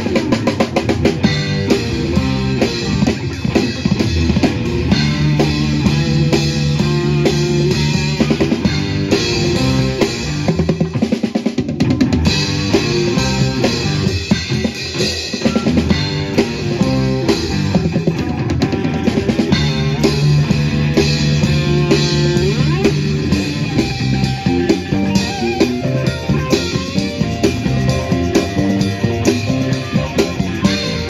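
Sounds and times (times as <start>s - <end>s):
drum kit beat: 0.0s - 31.0s
electric guitars: 0.0s - 31.0s.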